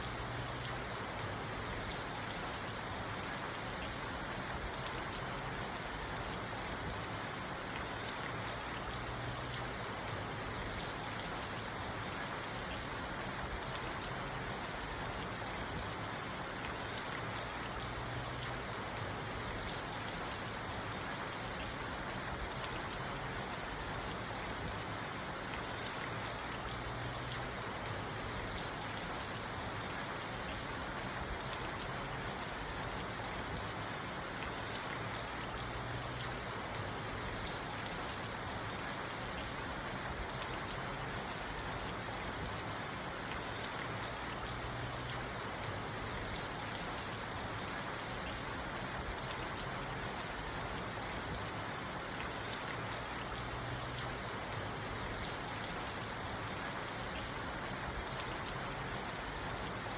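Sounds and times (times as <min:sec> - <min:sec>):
rain on a car: 0:00.0 - 0:59.9.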